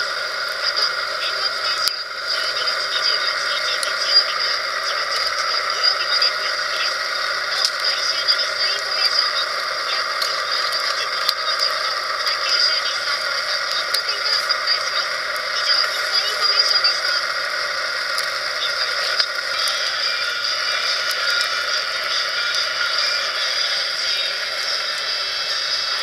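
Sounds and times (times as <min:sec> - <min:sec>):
campfire crackling: 0:00.0 - 0:26.0
frogs calling: 0:00.6 - 0:26.0.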